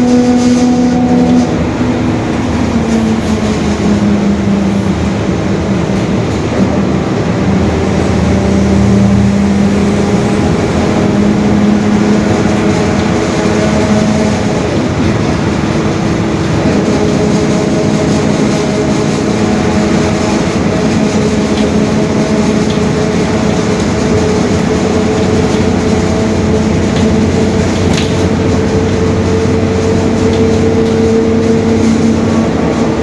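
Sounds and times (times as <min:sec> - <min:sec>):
bus engine rumbling: 0:00.0 - 0:33.0.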